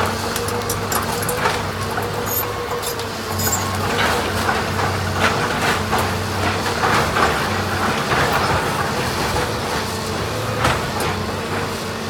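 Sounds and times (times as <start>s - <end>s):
heavy machine engine humming: 0.0s - 12.0s.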